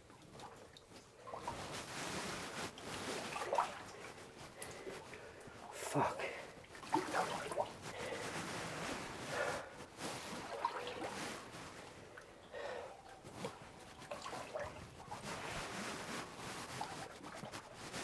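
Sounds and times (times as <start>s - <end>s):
boots sloshing through water: 0.2s - 18.0s.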